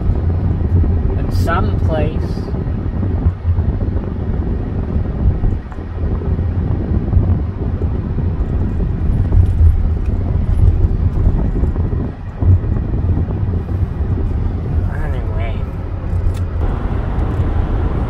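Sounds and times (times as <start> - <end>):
tyre and wind noise: 0.0 - 18.0.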